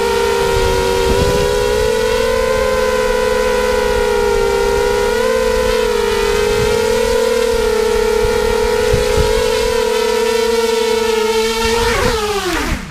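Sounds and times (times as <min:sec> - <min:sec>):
quadcopter motors whining: 0:00.0 - 0:12.9.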